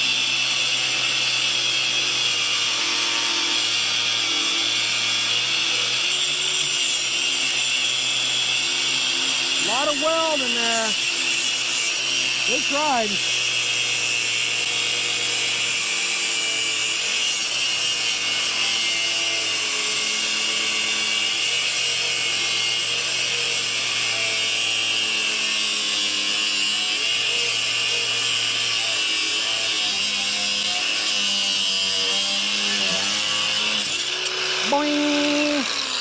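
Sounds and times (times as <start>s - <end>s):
angle grinder cutting steel: 0.0s - 36.0s.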